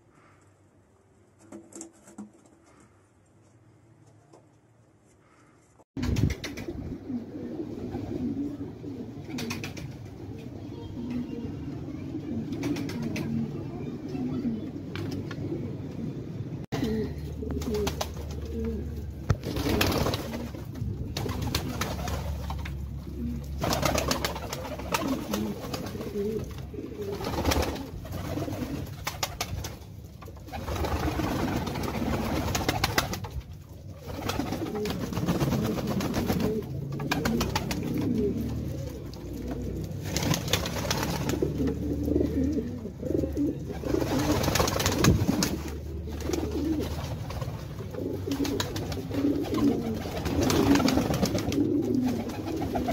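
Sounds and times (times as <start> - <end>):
pigeons cooing: 6.5 - 29.4, 30.4 - 52.9.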